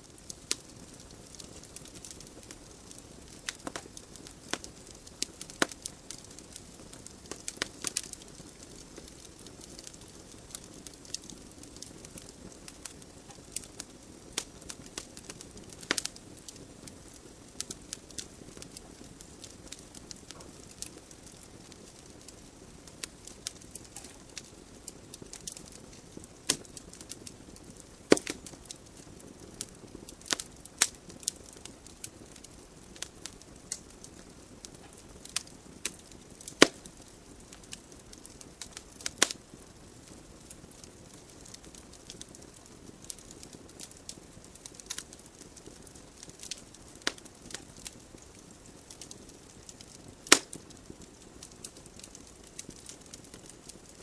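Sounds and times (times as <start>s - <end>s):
burning logs crackling and popping: 0.0s - 54.0s.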